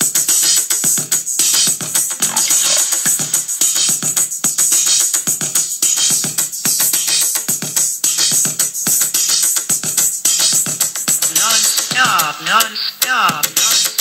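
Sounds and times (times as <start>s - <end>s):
electronic music with drum-machine beat: 0.0s - 14.0s.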